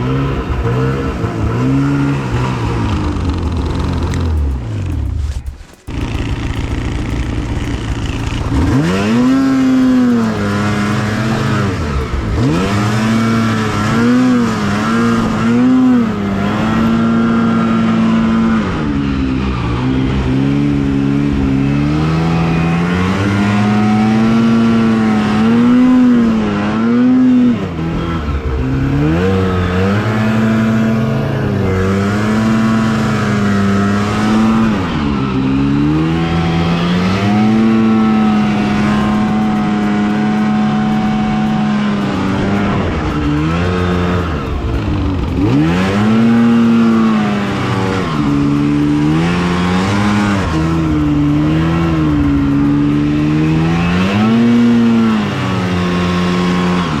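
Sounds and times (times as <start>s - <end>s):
two-stroke snowmobile engine revving: 0.0s - 57.0s.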